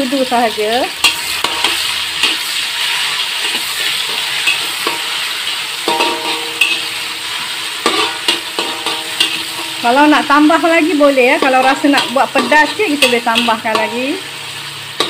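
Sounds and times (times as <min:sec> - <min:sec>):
paste sizzling in hot oil: 0:00.0 - 0:15.0
spatula scraping a wok: 0:00.2 - 0:15.0.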